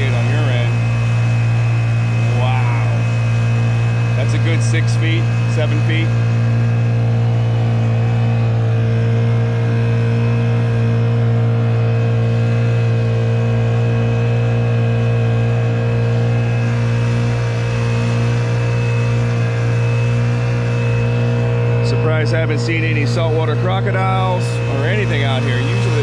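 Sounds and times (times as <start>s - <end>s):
outboard engine drone: 0.0s - 26.0s.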